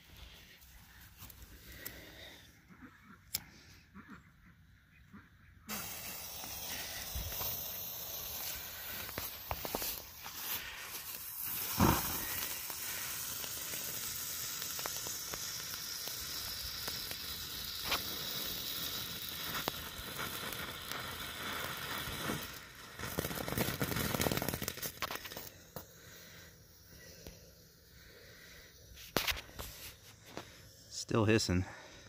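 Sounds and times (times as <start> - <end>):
flame crackling: 0.0 - 2.5, 5.7 - 32.0
firework fountain hissing: 5.7 - 32.0.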